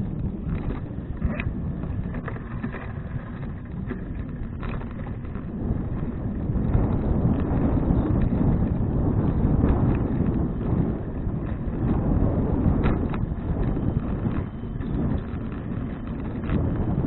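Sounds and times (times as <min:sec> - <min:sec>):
low road rumble: 0:00.0 - 0:17.0
wind buffeting microphone: 0:00.0 - 0:17.0.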